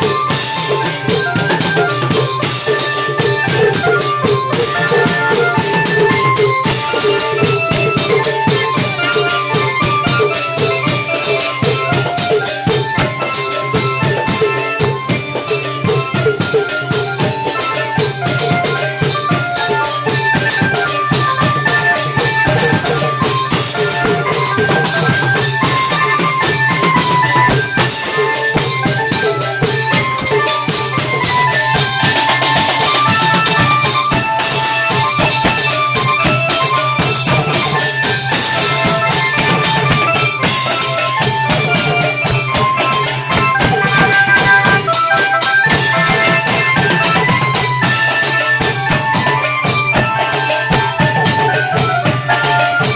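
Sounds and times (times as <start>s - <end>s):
drum ensemble with cymbals: 0.0s - 52.9s.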